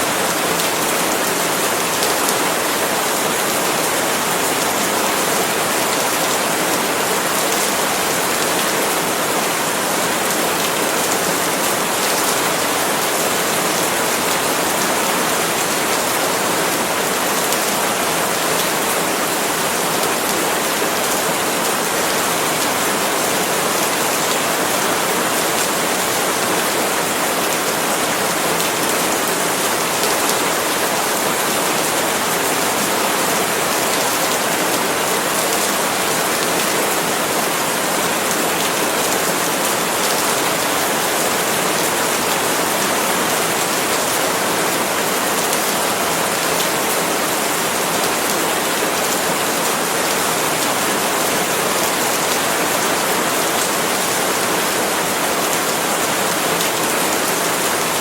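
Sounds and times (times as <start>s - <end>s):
rain falling on palm leaves: 0.0s - 58.0s.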